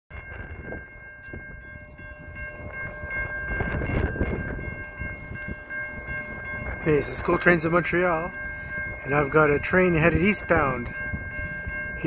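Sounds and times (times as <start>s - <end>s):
railway crossing bell ringing: 0.1s - 12.0s.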